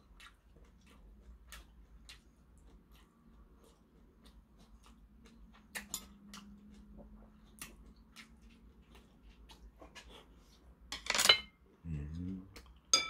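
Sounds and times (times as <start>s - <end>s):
chewing: 0.0s - 10.8s.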